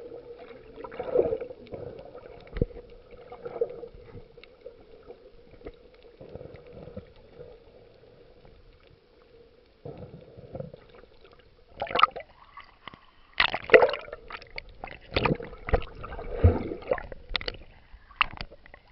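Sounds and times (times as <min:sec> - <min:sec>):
water gurgling and splashing: 0:00.0 - 0:08.2, 0:09.9 - 0:18.9
faint steady hum: 0:00.0 - 0:18.9.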